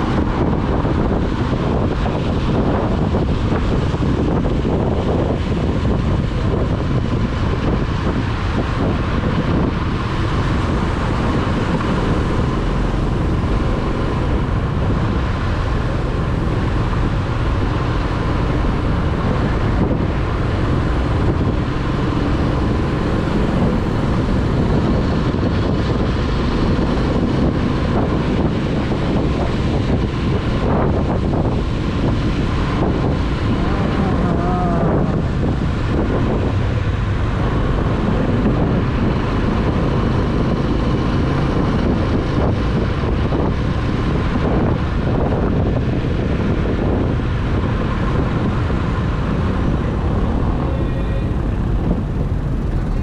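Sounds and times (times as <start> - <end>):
motorcycle engine running: 0.0 - 53.0
wind rushing on microphone: 0.0 - 53.0.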